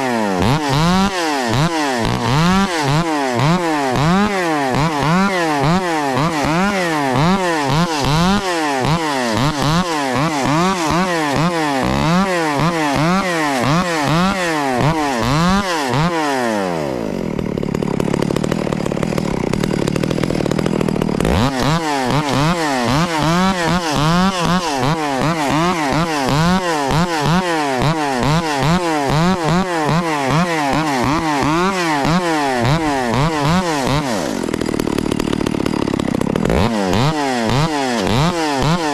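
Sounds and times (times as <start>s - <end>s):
chainsaw idling: 0.0s - 38.9s
chainsaw revving: 0.0s - 38.9s.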